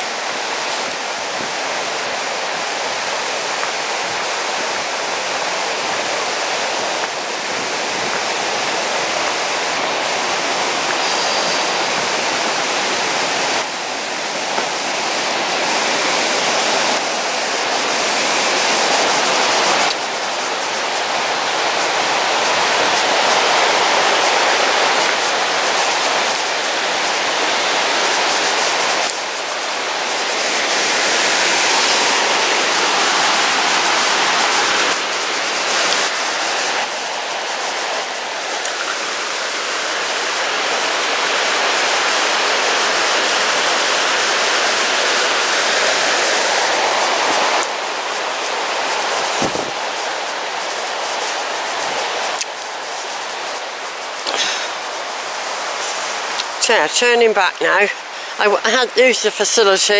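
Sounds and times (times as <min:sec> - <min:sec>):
river rushing over rocks: 0:00.0 - 0:59.9.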